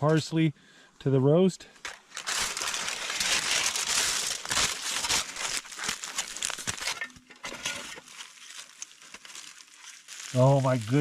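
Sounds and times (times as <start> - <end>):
meat sizzling over a campfire: 2.1 - 11.0.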